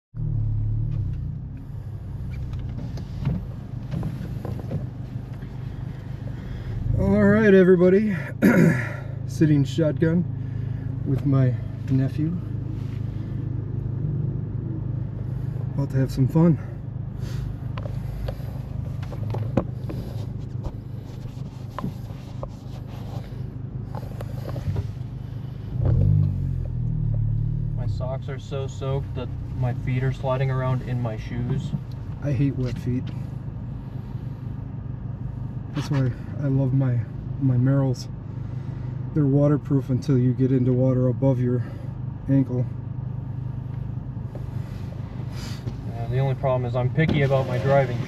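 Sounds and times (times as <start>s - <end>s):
car engine idling: 0.1s - 48.0s.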